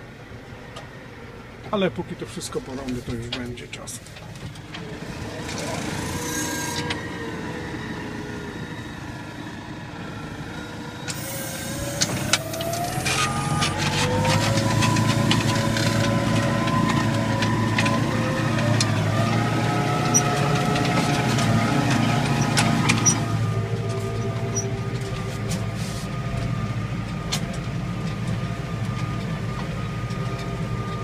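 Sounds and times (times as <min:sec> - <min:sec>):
tractor diesel engine revving: 0:01.2 - 0:31.0.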